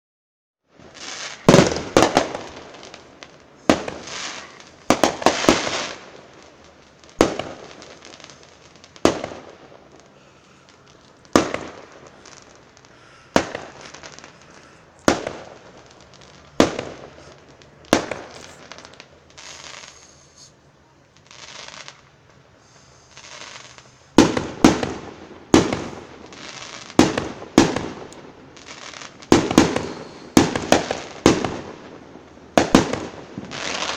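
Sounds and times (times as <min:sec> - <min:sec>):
firework crackling: 0:00.7 - 0:33.9
firework shells bursting: 0:01.0 - 0:20.6, 0:21.3 - 0:33.9
soft hissing bursts: 0:01.0 - 0:31.4.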